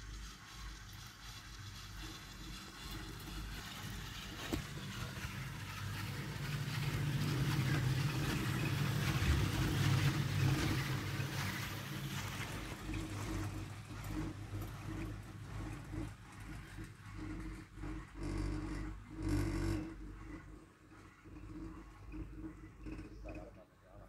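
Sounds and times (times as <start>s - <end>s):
chairlift machinery rumble: 0.0s - 24.0s.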